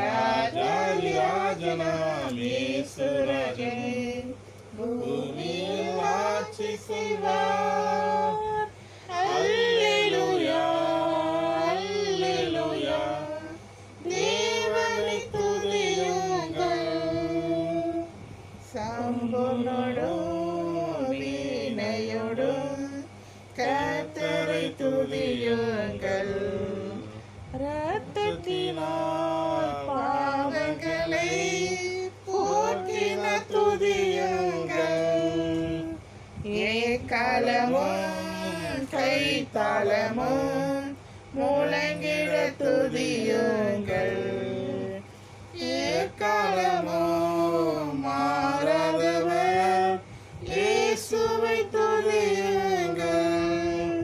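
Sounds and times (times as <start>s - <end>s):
group singing a worship song: 0.0s - 54.0s.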